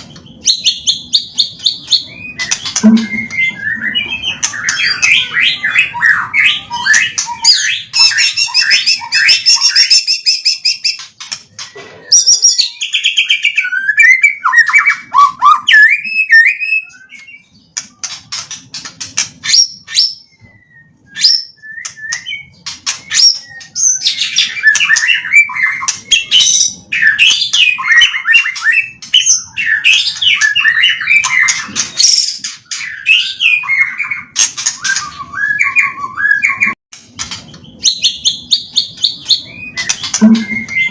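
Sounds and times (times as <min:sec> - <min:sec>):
bird singing whistles and trills: 0:00.0 - 0:18.8, 0:19.4 - 0:36.8, 0:37.5 - 0:40.9.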